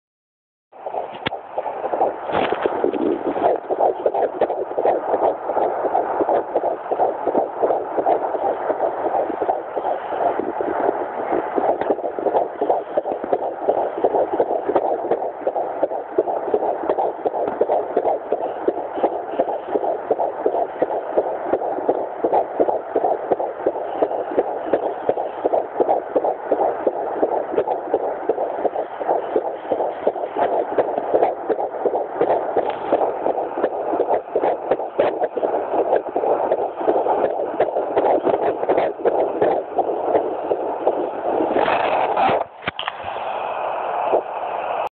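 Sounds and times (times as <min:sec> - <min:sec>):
fetal heartbeat whooshing pulse: 0:00.8 - 0:44.9.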